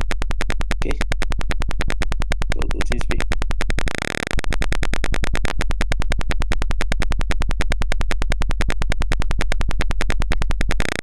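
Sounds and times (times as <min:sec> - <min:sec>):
pulsing electronic alarm buzz: 0:00.0 - 0:11.0.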